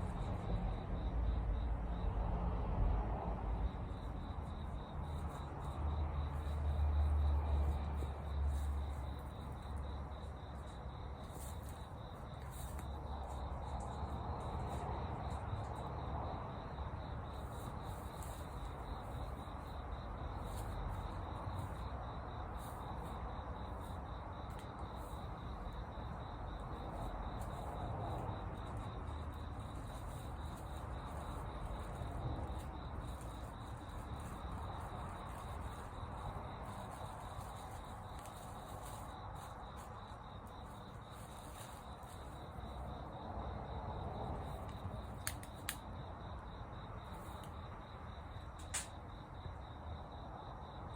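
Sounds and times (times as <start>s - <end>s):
high insect trill: 0.0s - 50.9s.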